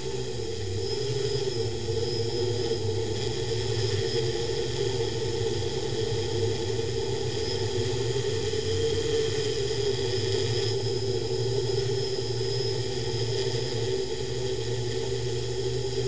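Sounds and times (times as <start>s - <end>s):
electric motors and propellers whirring: 0.0s - 16.0s.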